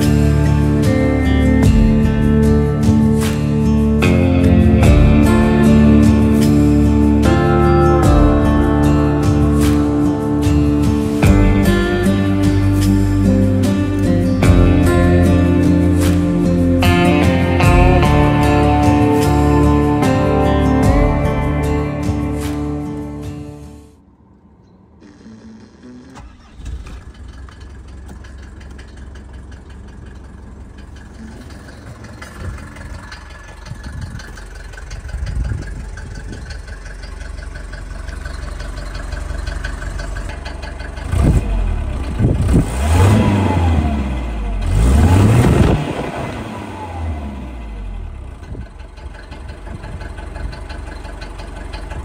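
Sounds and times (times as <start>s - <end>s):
diesel engine starting and idling: 0.0s - 52.0s
engine revving: 0.0s - 52.0s.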